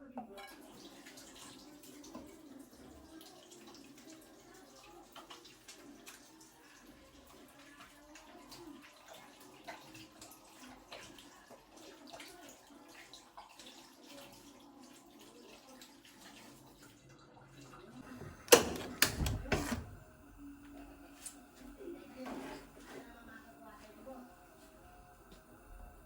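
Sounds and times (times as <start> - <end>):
running water in kitchen: 0.0 - 26.0.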